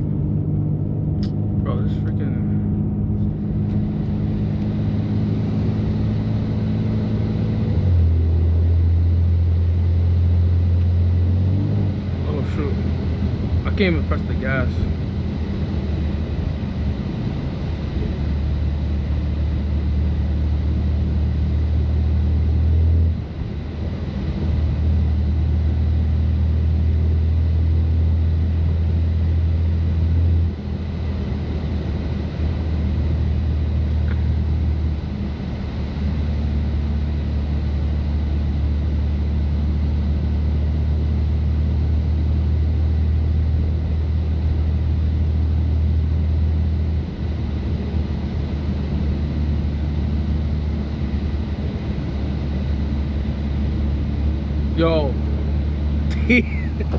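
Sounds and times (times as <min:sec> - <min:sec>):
car engine droning at low revs: 0:00.0 - 0:56.9.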